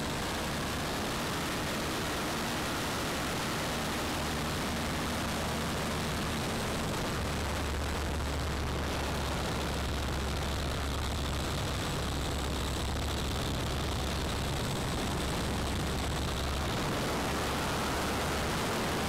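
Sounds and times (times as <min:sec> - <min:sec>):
airplane engine drone: 0:00.0 - 0:19.0.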